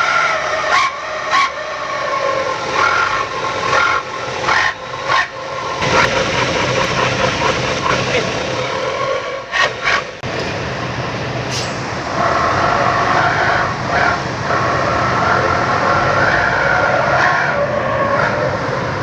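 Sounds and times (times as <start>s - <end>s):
truck exhaust howling: 0.0s - 19.0s.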